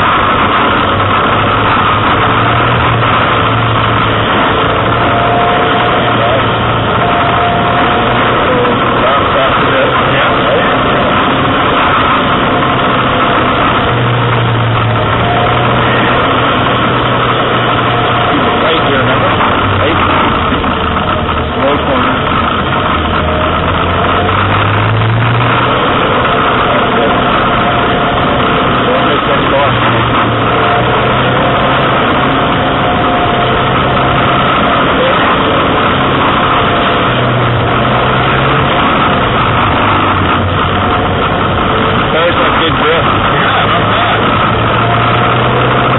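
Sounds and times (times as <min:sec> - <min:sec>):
car engine running: 0:00.0 - 0:45.9
rushing noise: 0:00.0 - 0:45.9.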